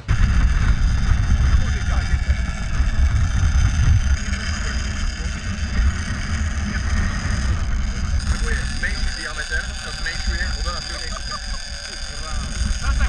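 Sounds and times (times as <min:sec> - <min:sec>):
fishing reel whining: 0:00.0 - 0:13.0
wind buffeting microphone: 0:00.0 - 0:13.0.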